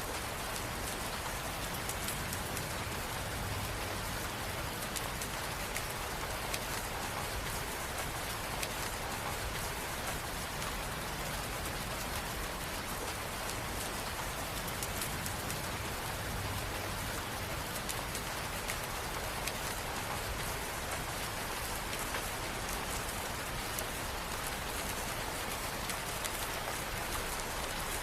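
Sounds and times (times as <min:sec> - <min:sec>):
raindrops pattering on a surface: 0:00.0 - 0:28.0
steady rain falling: 0:00.0 - 0:28.0.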